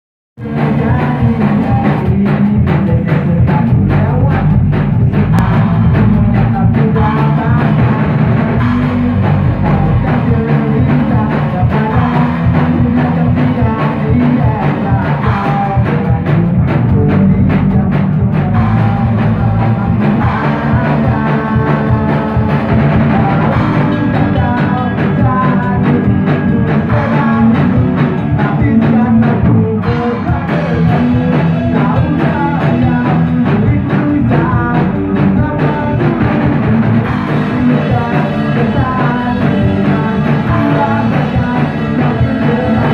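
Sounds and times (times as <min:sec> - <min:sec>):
rock band playing live: 0:00.4 - 0:42.9.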